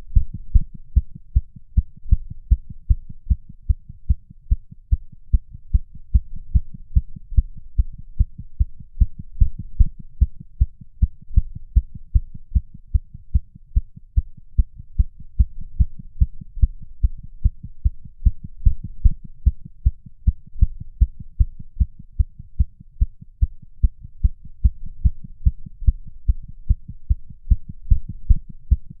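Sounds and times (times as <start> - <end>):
rapid heartbeat thumps: 0.1 - 29.0.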